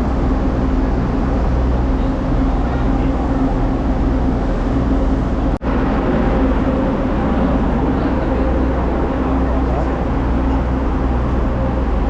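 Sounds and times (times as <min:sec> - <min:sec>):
moving vehicle rumble and hum: 0:00.0 - 0:12.0.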